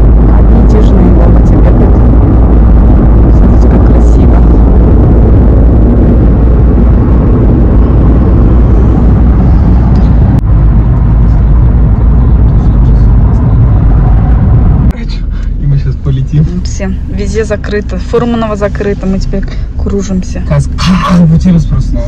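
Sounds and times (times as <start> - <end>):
road and wind noise in a car: 0.0 - 22.0.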